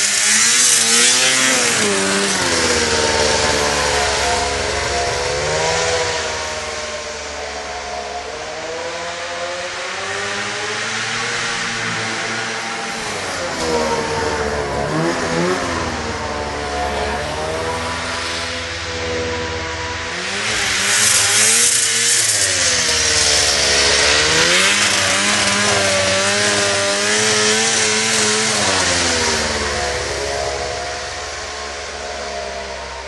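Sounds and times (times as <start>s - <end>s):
snowmobile engine revving: 0.0s - 33.0s.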